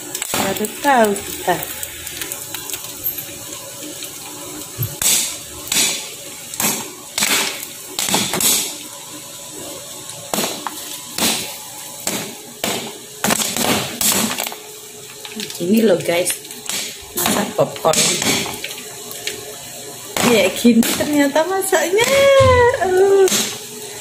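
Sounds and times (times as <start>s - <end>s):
popcorn kernels popping: 0.0s - 23.8s
gas burner hiss: 0.0s - 24.0s.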